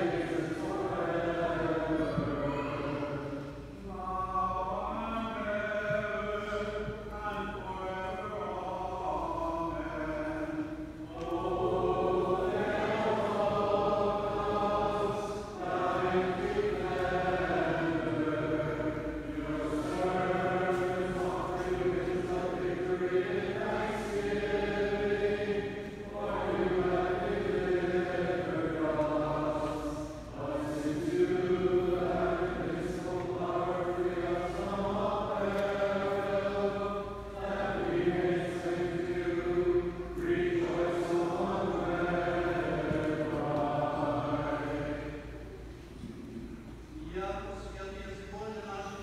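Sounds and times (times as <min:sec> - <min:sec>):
liturgical chant: 0:00.0 - 0:49.0.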